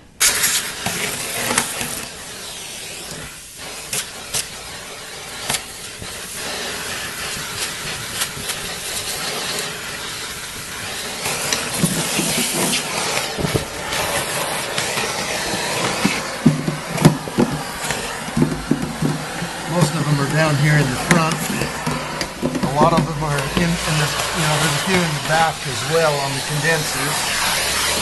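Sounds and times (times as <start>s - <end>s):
vacuum cleaner hissing: 0.0s - 28.0s.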